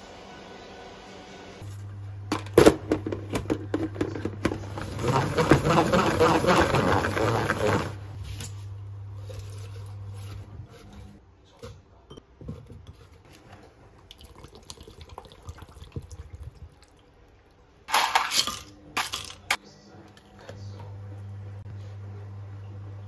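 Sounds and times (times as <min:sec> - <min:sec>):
low steady hum: 0:01.6 - 0:23.0.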